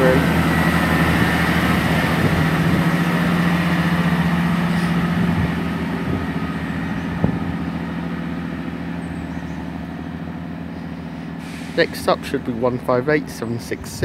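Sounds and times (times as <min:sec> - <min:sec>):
diesel train engine: 0:00.0 - 0:14.0.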